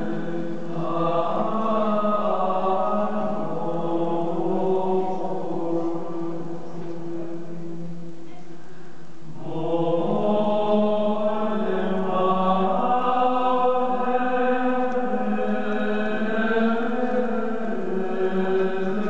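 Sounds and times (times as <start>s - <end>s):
slow choir-like background music: 0.0s - 19.0s.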